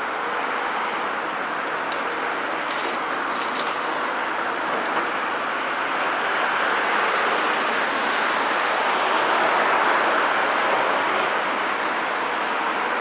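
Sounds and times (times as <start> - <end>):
excavator diesel engine drone: 0.0 - 13.0.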